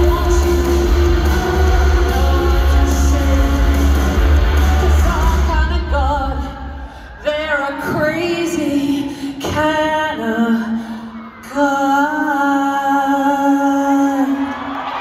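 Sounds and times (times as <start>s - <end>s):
woman singing through pa: 0.0s - 14.6s.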